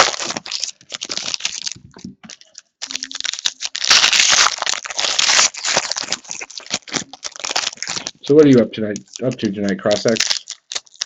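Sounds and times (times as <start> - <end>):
card pack wrappers tearing and crinkling: 0.0 - 11.0.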